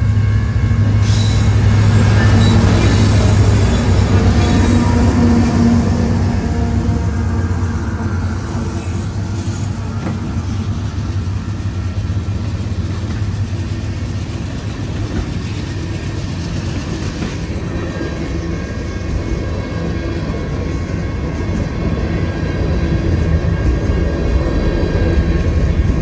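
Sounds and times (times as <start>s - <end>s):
diesel locomotive engine rumbling: 0.0s - 26.0s
train wheels on rails: 0.0s - 26.0s.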